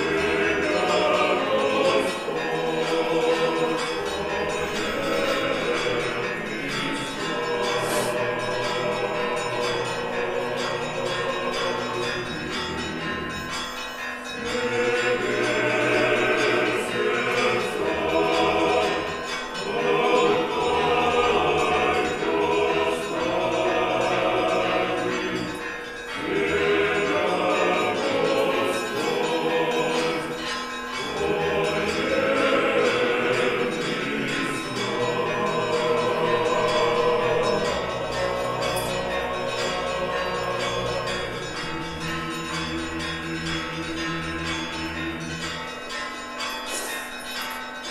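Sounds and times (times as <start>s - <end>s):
choir singing church music: 0.0s - 47.9s
church bells ringing: 0.0s - 47.9s.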